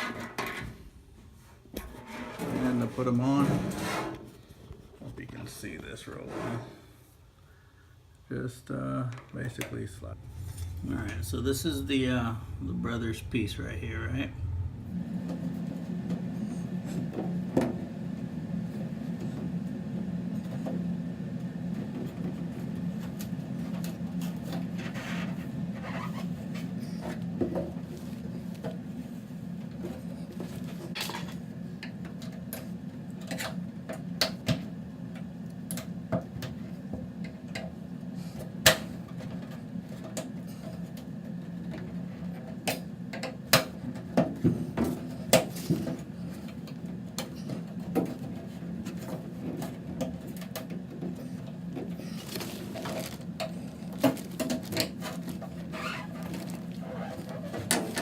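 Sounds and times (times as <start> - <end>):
steady low hum: 0.1 - 58.0.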